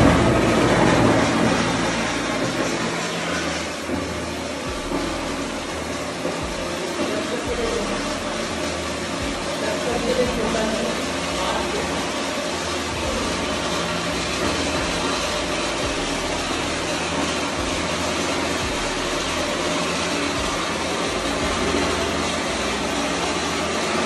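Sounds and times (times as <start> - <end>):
spark fountain hissing: 0.0 - 24.0.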